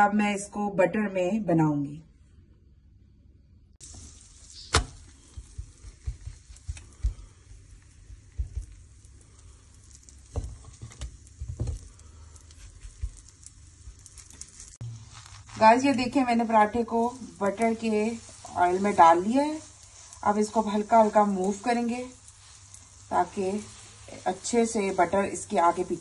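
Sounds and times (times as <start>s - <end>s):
flatbread sizzling in butter: 3.8s - 26.0s.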